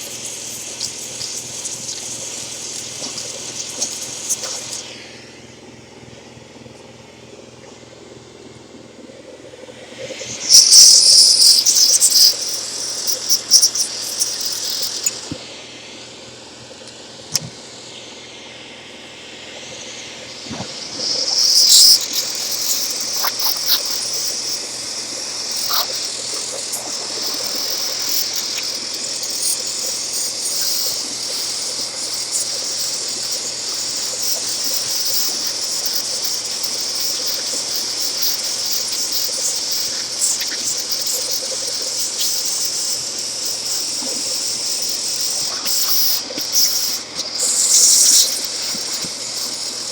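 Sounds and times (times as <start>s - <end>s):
compressed air and vacuum hiss: 0.0s - 5.5s, 9.8s - 16.0s, 17.2s - 49.9s.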